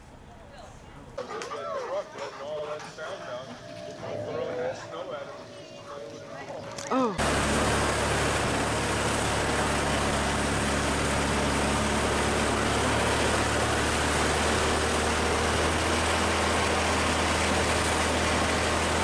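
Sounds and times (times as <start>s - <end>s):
engine running steadily: 2.7s - 19.0s.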